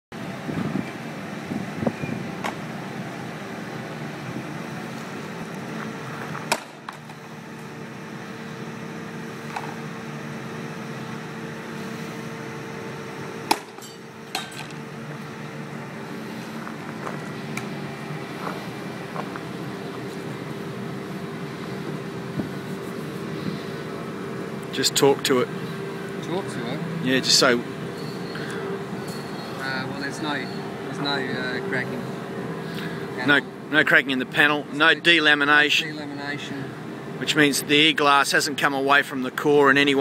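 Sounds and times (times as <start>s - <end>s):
steady hum: 0.2s - 40.0s.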